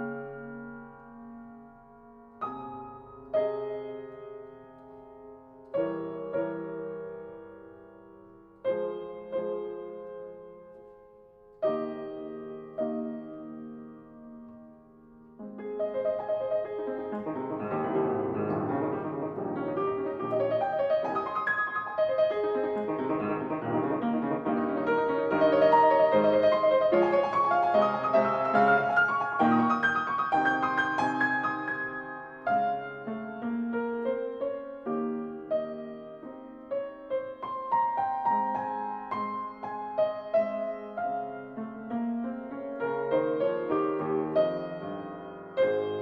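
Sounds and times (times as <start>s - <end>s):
solo piano music: 0.0s - 46.0s.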